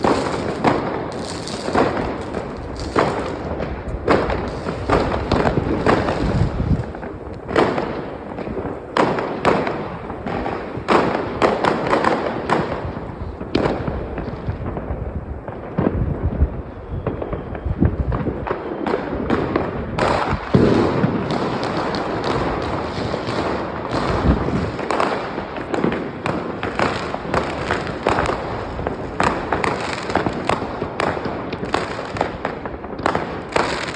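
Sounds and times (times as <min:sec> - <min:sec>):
rumble of explosions: 0:00.0 - 0:33.6
fireworks bangs and crackles: 0:00.0 - 0:33.9.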